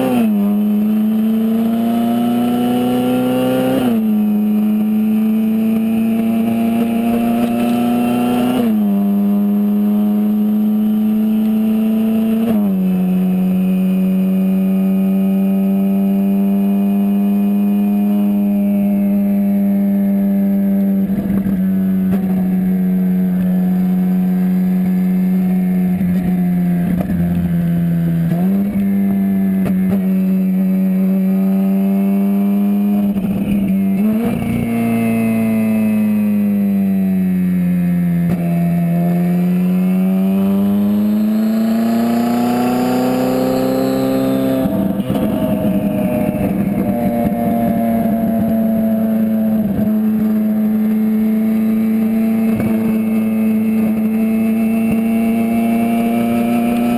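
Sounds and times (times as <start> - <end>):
car engine at mid revs: 0.0 - 56.9.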